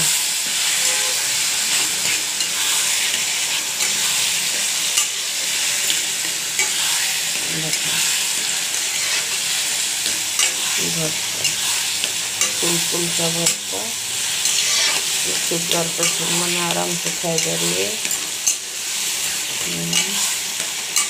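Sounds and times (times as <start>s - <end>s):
vegetables sizzling in hot oil: 0.0s - 21.0s
spatula scraping pan: 0.5s - 18.6s.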